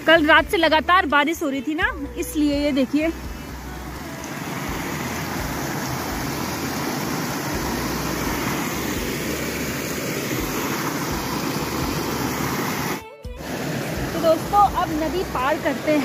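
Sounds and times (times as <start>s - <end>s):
stream rushing: 2.1s - 16.0s.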